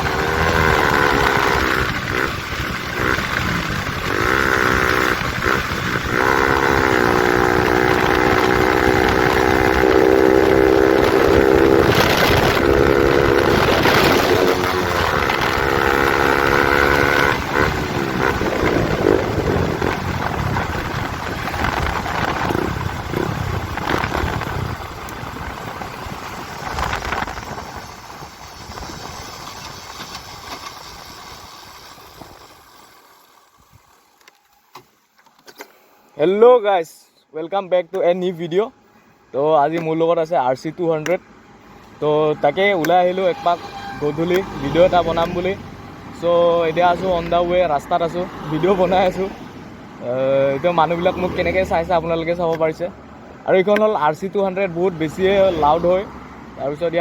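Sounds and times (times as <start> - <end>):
loud motorcycle engine revving: 0.0 - 32.3, 42.0 - 52.9, 53.7 - 57.0.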